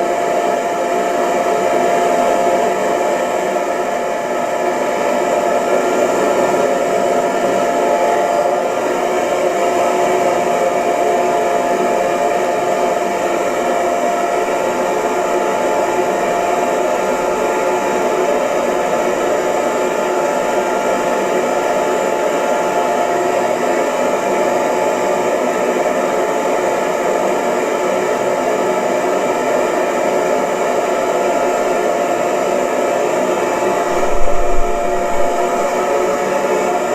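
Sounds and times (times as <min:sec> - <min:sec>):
hair dryer running: 0:00.0 - 0:36.9.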